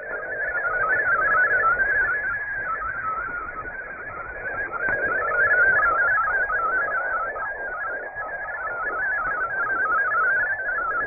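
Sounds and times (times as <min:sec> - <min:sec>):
shortwave static: 0:00.0 - 0:11.0
warbling digital data tones: 0:00.0 - 0:11.0.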